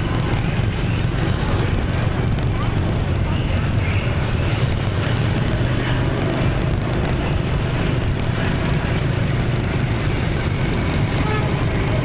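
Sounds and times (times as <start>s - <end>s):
motorbike engine running: 0.0s - 12.0s
traffic hum: 0.0s - 12.0s.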